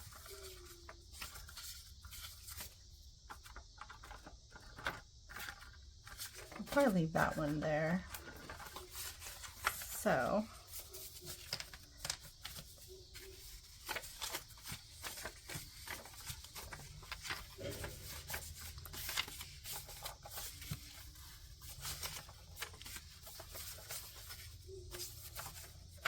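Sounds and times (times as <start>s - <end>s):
paper bills rustling: 0.0s - 26.0s.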